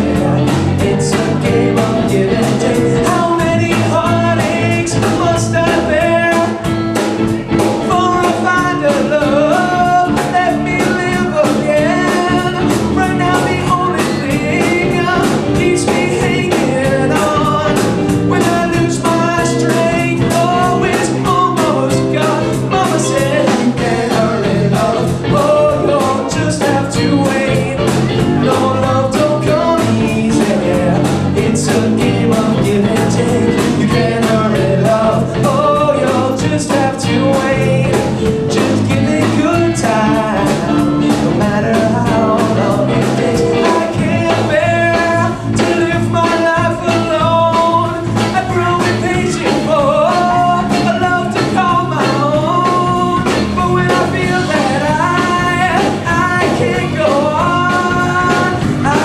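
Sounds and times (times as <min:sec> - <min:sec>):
drum kit beat: 0:00.0 - 0:59.0
electric bass: 0:00.0 - 0:59.0
electric guitar: 0:00.0 - 0:59.0
man singing: 0:00.0 - 0:59.0.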